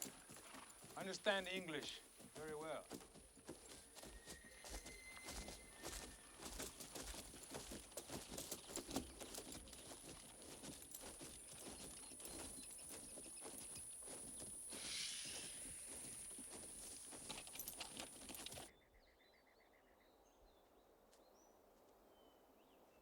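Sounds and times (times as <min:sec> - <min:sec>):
horse hooves on forest floor: 0:00.0 - 0:18.7.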